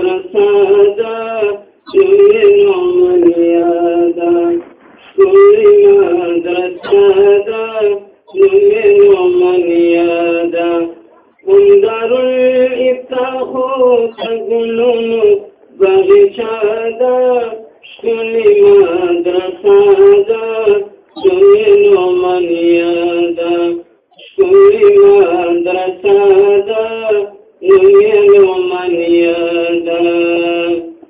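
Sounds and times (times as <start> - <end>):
person singing unaccompanied: 0.0 - 31.0.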